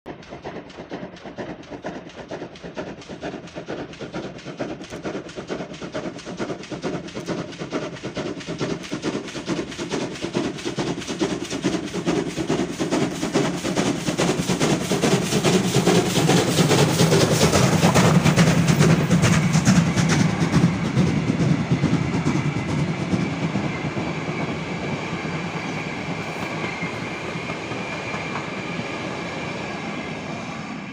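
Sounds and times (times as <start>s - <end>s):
steam locomotive chuffing: 0.1s - 30.9s
train carriages rolling past: 0.1s - 30.9s.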